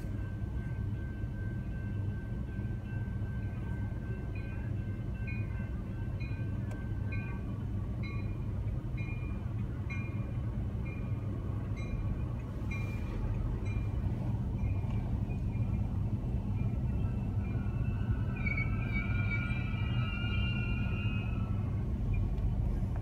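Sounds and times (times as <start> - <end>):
crossing warning bell dinging: 0.0 - 23.0
train rumbling past: 0.0 - 23.0.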